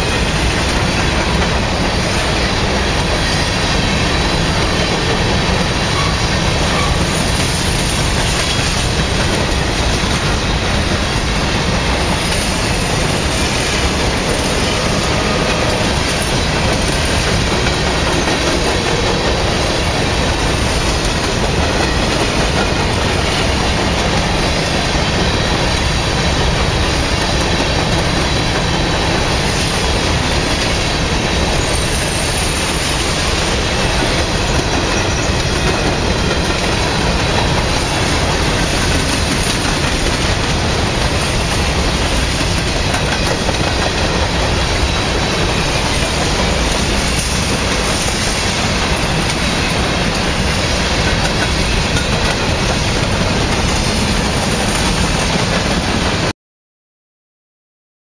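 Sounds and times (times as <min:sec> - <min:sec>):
freight train wheels clattering on rails: 0:00.0 - 0:56.3.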